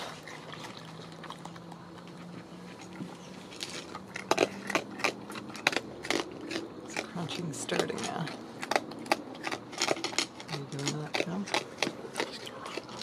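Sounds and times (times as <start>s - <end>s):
animal crunching dry kibble: 0.0s - 13.0s.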